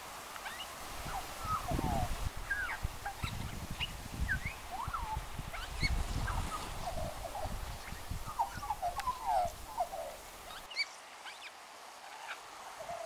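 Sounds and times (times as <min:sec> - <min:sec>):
magpie singing: 0:00.5 - 0:11.4.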